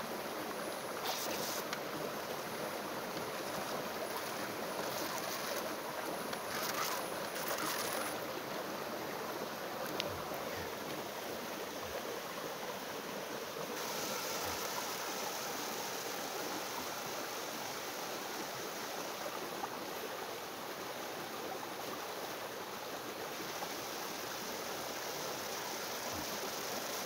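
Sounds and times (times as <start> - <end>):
river rushing over waterfalls: 0.0 - 27.0.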